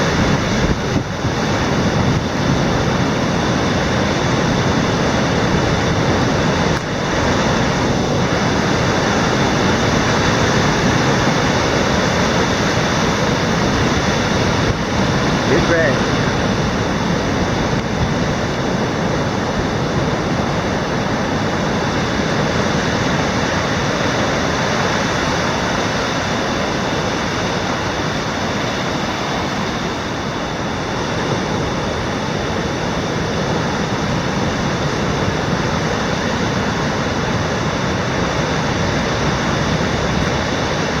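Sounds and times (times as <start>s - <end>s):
storm wind rushing: 0.0s - 41.0s.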